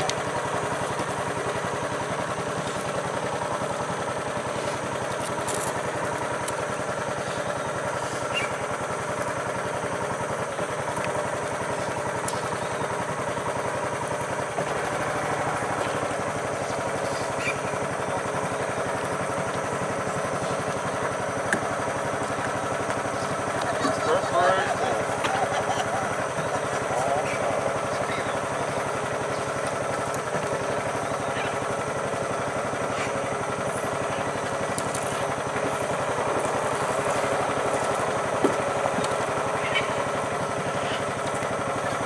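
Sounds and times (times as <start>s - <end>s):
small engine idling: 0.0s - 42.0s.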